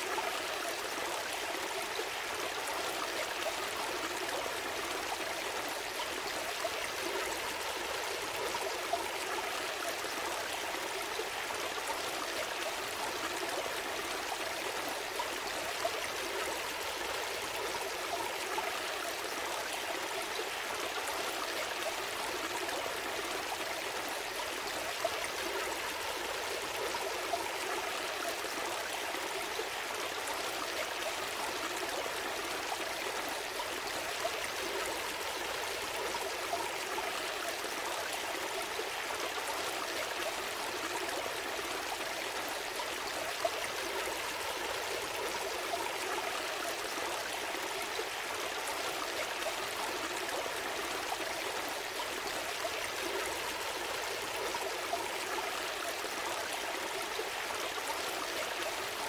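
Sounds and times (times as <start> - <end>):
gentle stream flowing: 0.0 - 59.0.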